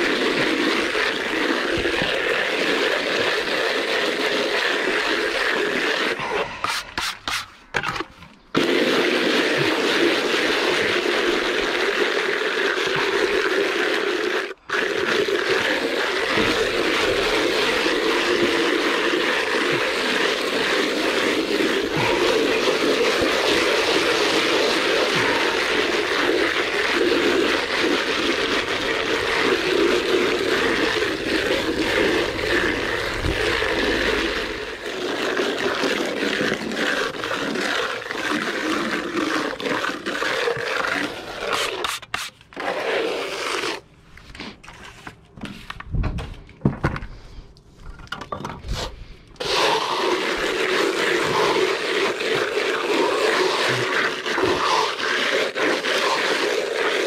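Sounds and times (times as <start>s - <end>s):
trowel scraping render: 0.0s - 45.8s, 47.8s - 57.0s.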